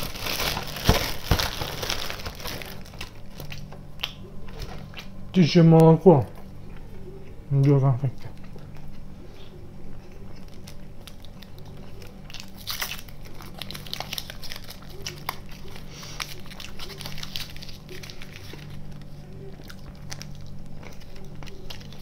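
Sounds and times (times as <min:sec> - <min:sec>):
person chewing candies: 0:00.0 - 0:05.2, 0:06.2 - 0:22.0
steady low hum: 0:00.0 - 0:22.0.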